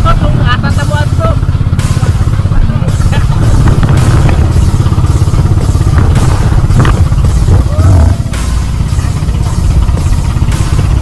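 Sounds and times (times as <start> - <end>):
boat engine running: 0.0 - 11.0
water splashing along hull: 0.0 - 11.0
wind buffeting microphone: 0.0 - 11.0.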